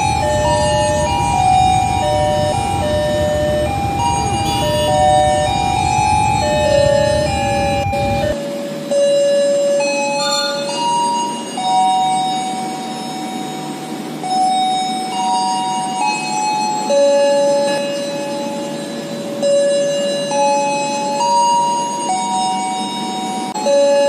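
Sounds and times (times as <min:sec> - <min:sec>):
slow bell-like melody: 0:00.0 - 0:24.0.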